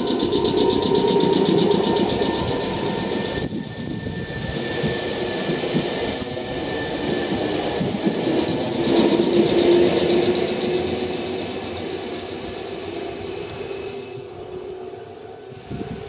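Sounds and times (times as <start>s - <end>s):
train wheels clattering on rails: 0.0s - 14.3s.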